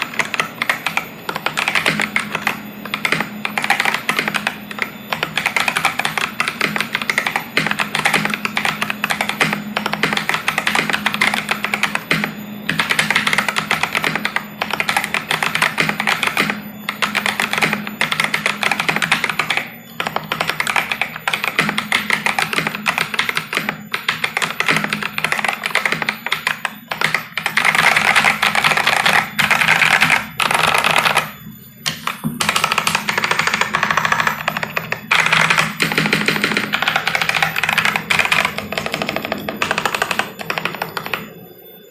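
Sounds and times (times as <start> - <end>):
mechanical keyboard typing: 0.0 - 41.6.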